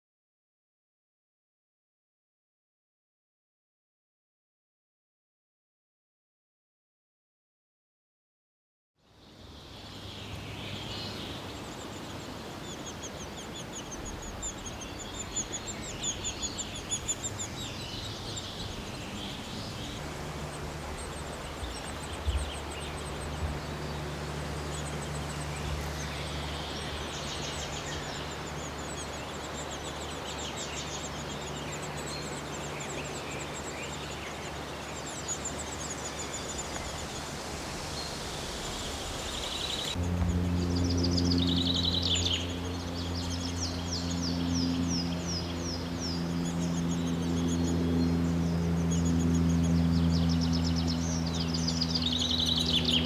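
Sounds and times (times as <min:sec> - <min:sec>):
small birds chirping: 0:09.2 - 0:53.0
steady low hum: 0:09.7 - 0:53.0.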